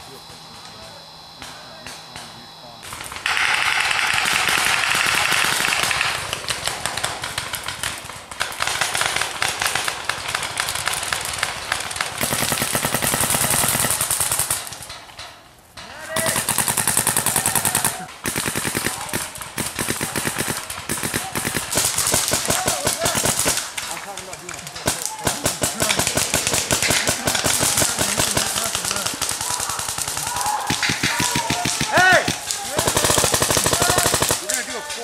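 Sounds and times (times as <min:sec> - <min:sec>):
paintball markers firing rapidly: 0:01.4 - 0:15.2, 0:16.1 - 0:35.0.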